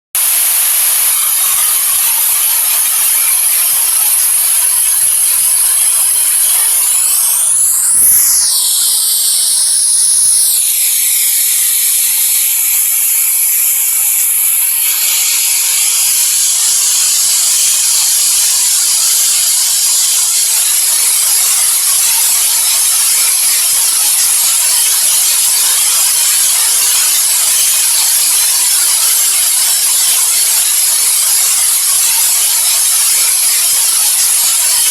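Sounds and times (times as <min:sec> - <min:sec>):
high-pitched white noise hiss: 0:00.2 - 0:34.9.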